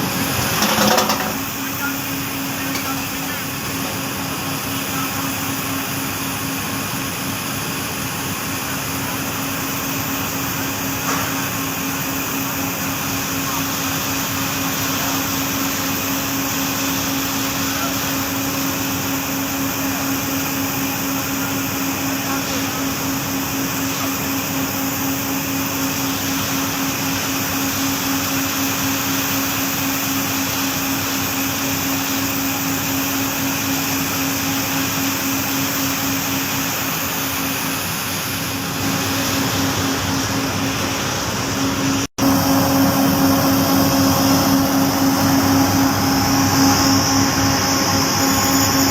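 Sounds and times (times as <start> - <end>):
factory machinery running: 0.0 - 48.9.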